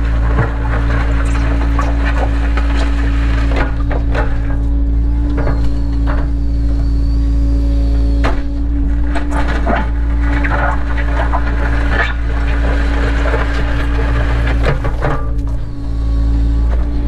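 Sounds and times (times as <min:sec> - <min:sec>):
bucket crunching and scraping: 0:00.0 - 0:07.3, 0:08.0 - 0:16.0
excavator diesel engine running: 0:00.0 - 0:17.0.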